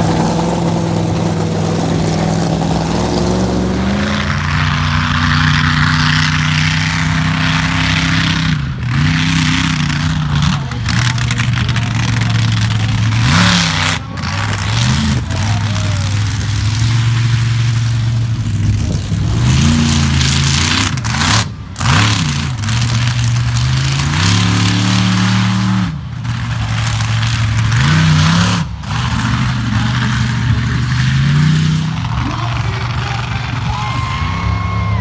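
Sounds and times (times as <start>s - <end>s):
monster truck engine revving: 0.0s - 35.0s.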